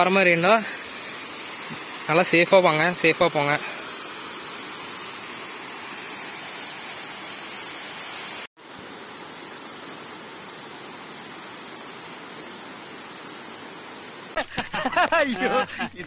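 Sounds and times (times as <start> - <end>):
waterfall rushing over rock: 0.0 - 14.4.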